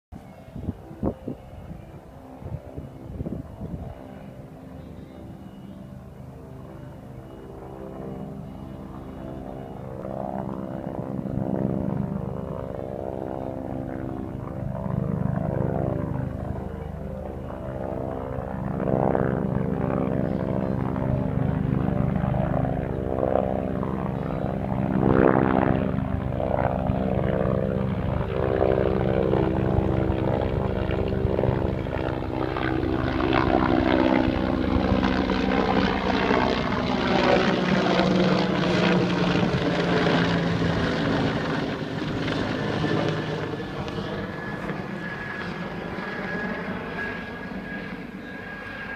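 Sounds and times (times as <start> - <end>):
helicopter rotor beating: 2.6 - 48.9.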